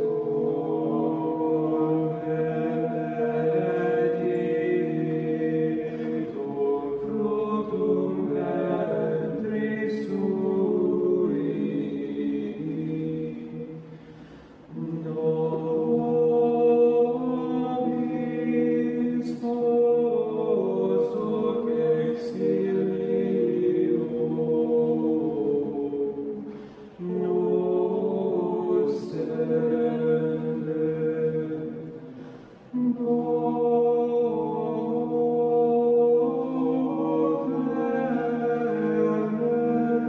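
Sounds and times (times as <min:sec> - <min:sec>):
group singing a hymn: 0:00.0 - 0:40.0.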